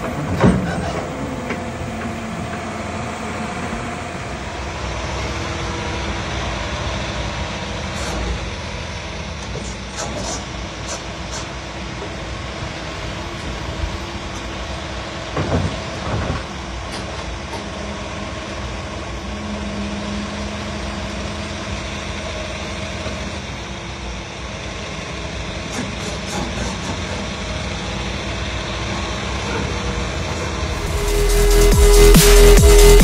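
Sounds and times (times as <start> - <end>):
excavator diesel engine: 0.0 - 33.0.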